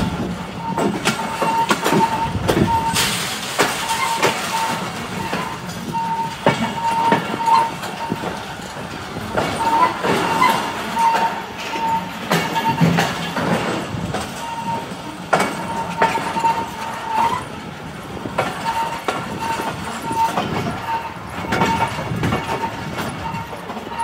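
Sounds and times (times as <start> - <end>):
high wheel squeal: 0.0 - 8.7, 9.4 - 13.7, 14.3 - 17.6, 18.3 - 24.0
train coaches rumbling: 0.0 - 24.0
wheels clacking over rail joints: 0.0 - 24.0.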